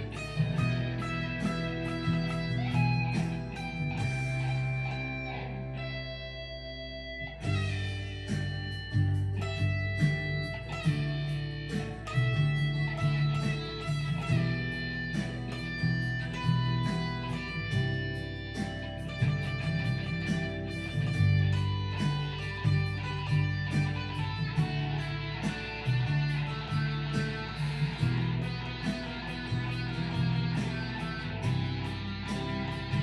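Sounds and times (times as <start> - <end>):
backing track: 0.0 - 33.0
electric guitar lead lines: 0.0 - 33.0.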